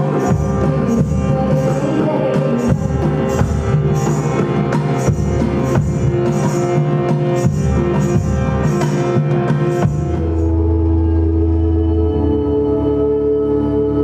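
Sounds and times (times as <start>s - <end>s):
hand drums: 0.0s - 11.3s
ringing drone: 0.0s - 14.0s.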